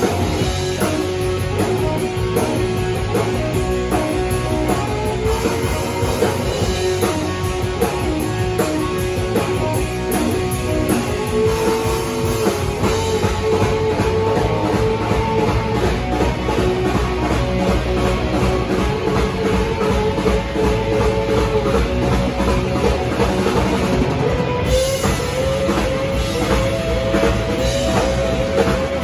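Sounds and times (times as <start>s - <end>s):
drums: 0.0s - 29.0s
electric guitars: 0.0s - 29.0s.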